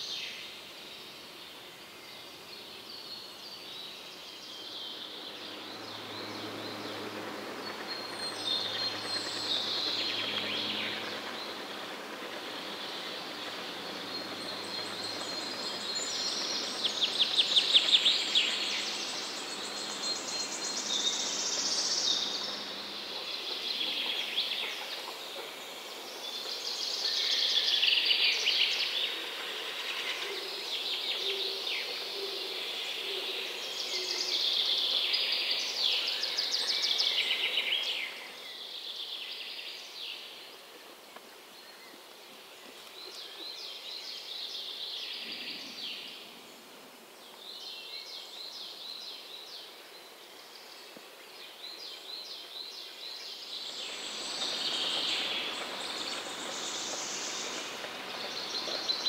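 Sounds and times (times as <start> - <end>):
birds singing and trilling: 0.0 - 40.3, 47.2 - 59.0.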